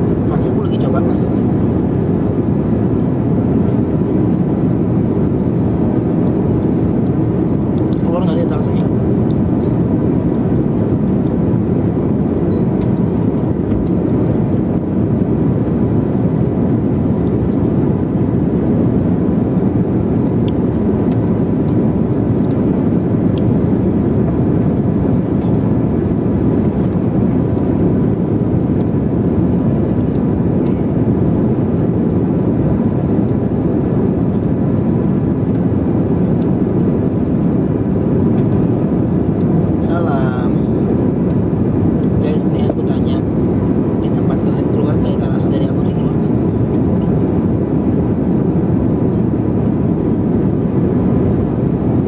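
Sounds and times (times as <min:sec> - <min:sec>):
airliner cabin engine drone: 0:00.0 - 0:52.0.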